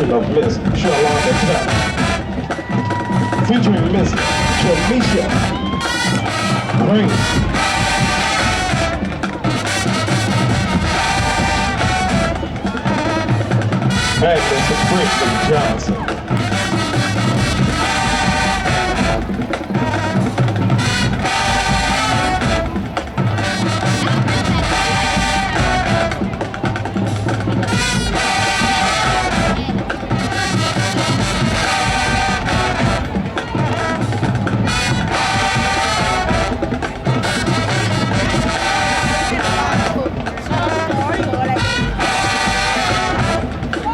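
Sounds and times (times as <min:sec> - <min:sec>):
brass instruments: 0:00.0 - 0:43.9
drums: 0:00.0 - 0:43.9
marching band playing: 0:00.0 - 0:43.9.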